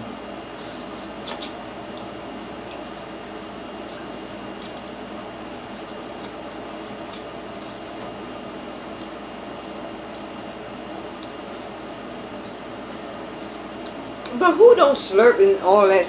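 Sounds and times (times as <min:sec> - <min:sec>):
air conditioner hum: 0:00.0 - 0:16.0.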